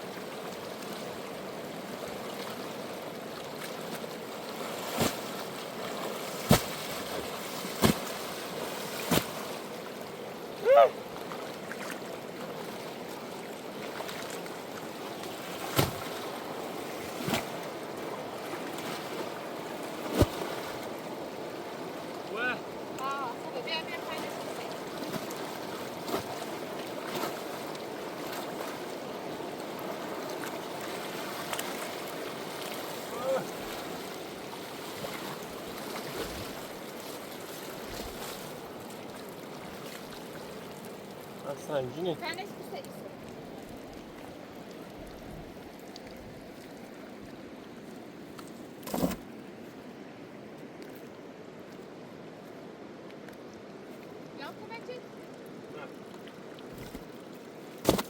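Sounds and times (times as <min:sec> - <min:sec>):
river water rushing: 0:00.0 - 0:50.6.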